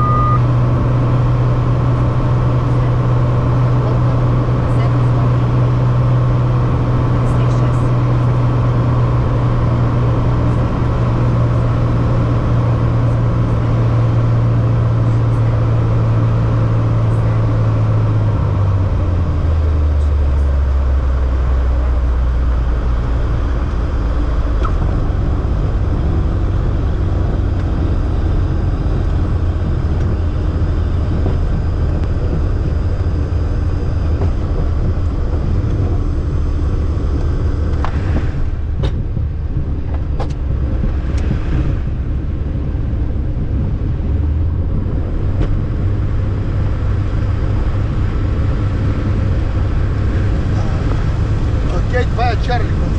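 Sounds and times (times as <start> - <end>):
airliner cabin engine rumble: 0.0 - 52.9
low drone: 0.0 - 52.9.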